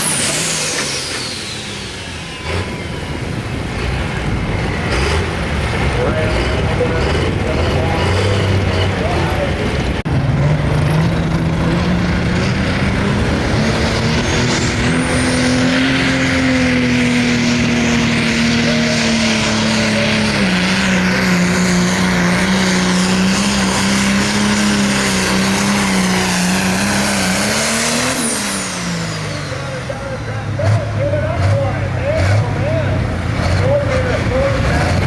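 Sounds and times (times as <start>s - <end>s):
diesel engine running hard: 0.0s - 35.0s.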